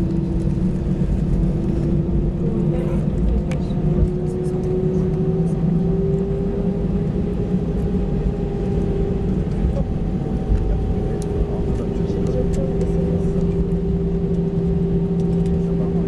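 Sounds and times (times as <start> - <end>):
jet engines idling whine: 0.0 - 16.0
low cabin rumble: 0.0 - 16.0.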